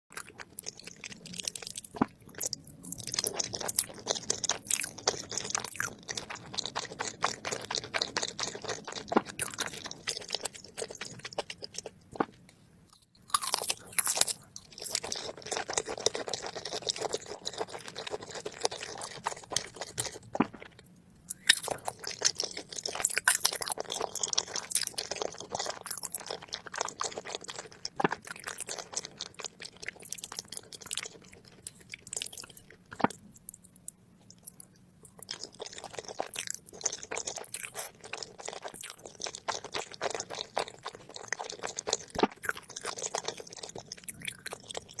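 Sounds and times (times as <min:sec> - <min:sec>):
crunchy chewing and biting: 0:00.2 - 0:45.0.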